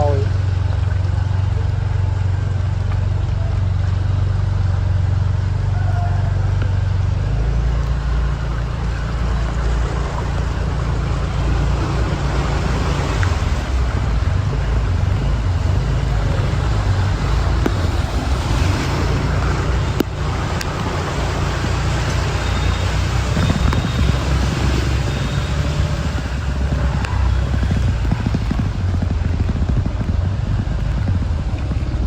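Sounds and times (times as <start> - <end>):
hiss of traffic and water: 0.0 - 32.0
vehicle engine running: 0.0 - 32.0.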